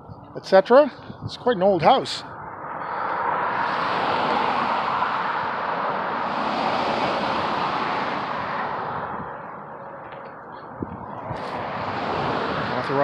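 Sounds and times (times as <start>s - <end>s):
road vehicle passing: 1.0s - 13.0s.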